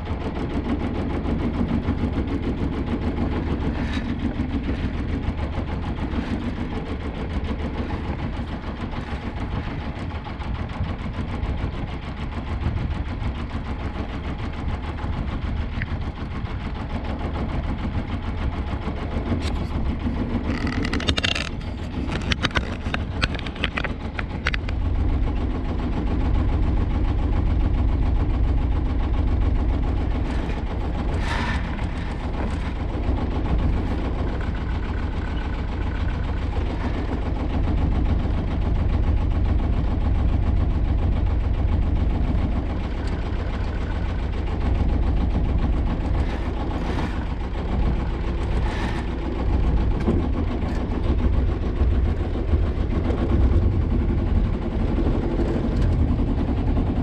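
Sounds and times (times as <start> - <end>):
boat engine rumbling: 0.0 - 57.0.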